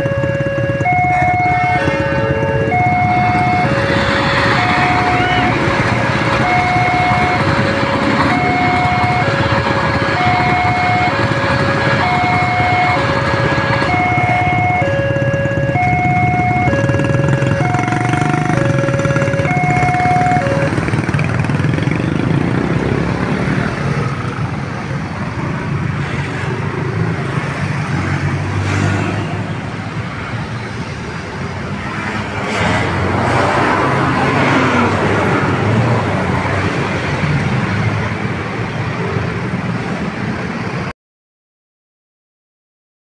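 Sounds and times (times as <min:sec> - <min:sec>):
car engines: 0:00.0 - 0:40.9
motorcycle engines: 0:00.0 - 0:40.9.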